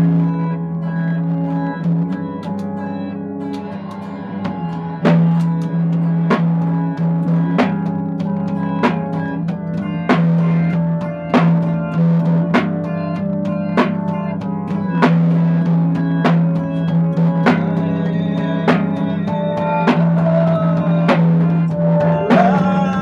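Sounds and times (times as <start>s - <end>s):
drum kit beat: 0.0s - 23.0s
guitar sustained notes: 0.0s - 23.0s.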